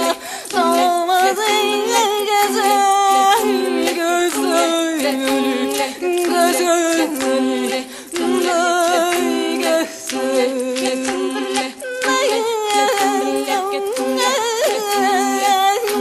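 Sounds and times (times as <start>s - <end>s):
voices singing a cappella: 0.0s - 16.0s.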